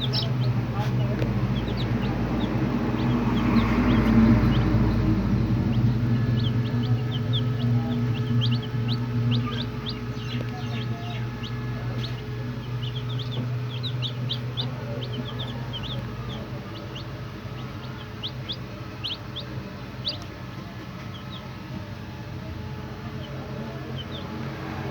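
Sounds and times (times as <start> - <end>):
baby chicks peeping: 0.0 - 24.9
steady low hum: 0.0 - 24.9.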